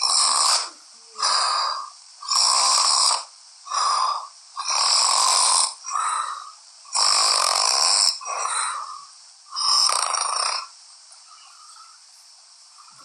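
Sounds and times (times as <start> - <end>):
man snoring loudly: 0.0 - 10.7.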